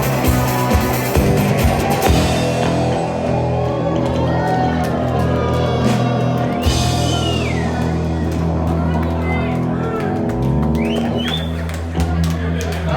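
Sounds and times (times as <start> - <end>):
instrumental rock music: 0.0 - 12.2.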